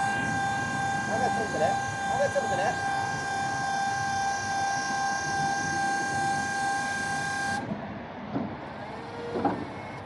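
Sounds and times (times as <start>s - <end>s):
hydraulic pump motor whining: 0.0s - 7.8s, 8.4s - 10.0s.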